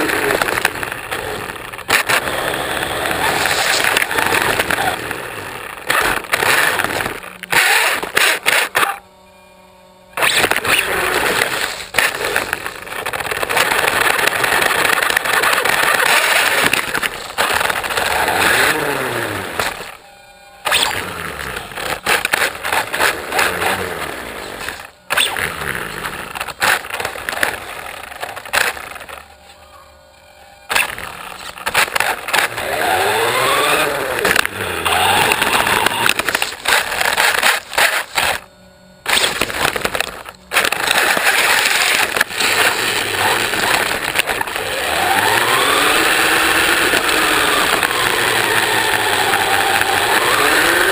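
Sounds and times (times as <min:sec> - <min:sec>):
toy car motor and gear whine: 0:00.0 - 0:50.9.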